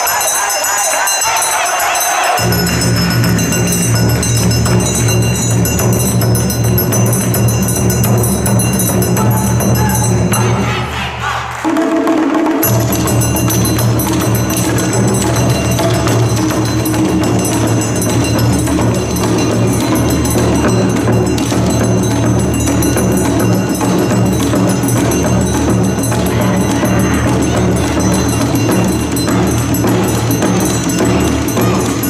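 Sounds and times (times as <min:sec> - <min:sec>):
loud dance music with percussion: 0:00.0 - 0:32.0.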